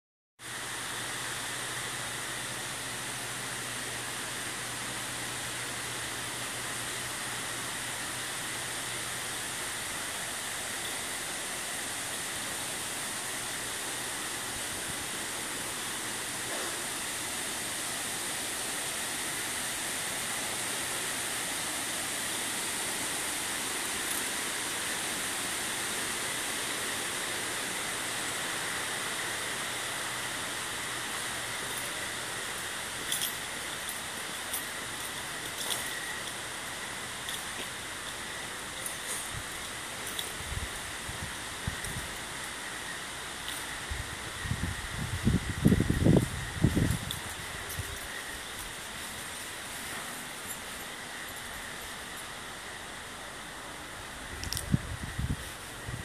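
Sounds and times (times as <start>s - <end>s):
outdoor ambience hiss: 0.4s - 56.0s.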